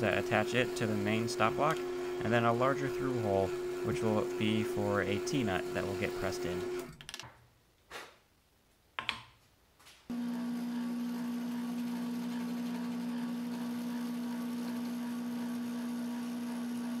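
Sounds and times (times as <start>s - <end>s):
drill press humming: 0.0s - 7.0s, 10.1s - 17.0s.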